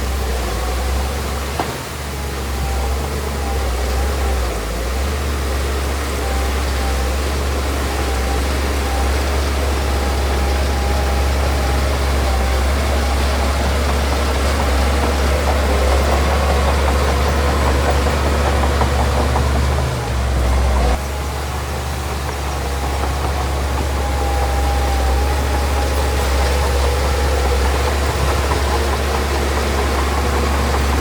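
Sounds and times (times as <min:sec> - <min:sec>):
heavy machinery diesel engine running: 0:00.0 - 0:31.0.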